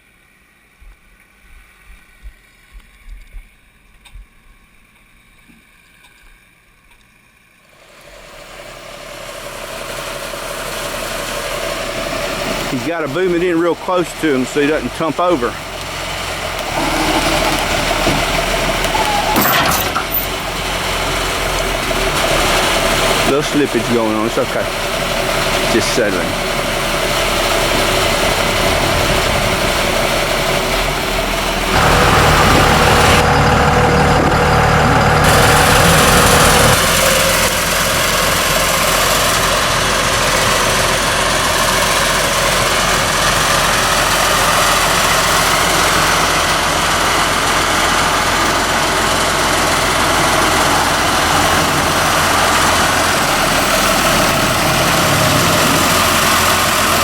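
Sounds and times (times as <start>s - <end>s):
heavy machine engine running: 7.7s - 57.0s.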